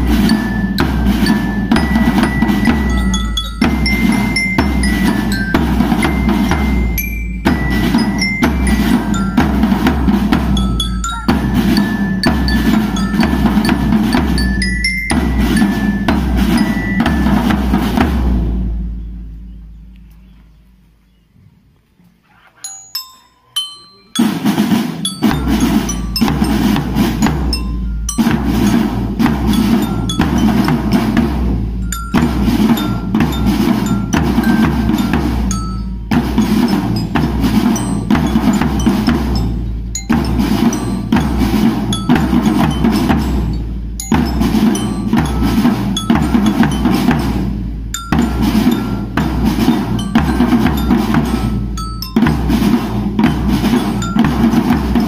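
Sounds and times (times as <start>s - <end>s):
high ringing bell lyre notes: 0.0s - 18.2s, 22.5s - 55.0s
marching drum band: 0.0s - 19.9s, 24.2s - 55.0s.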